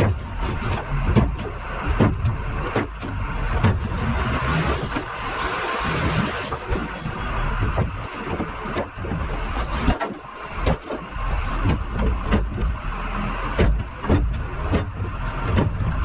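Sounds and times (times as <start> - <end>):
knocks and clanks: 0.0 - 16.0
loader engine running: 0.0 - 16.0.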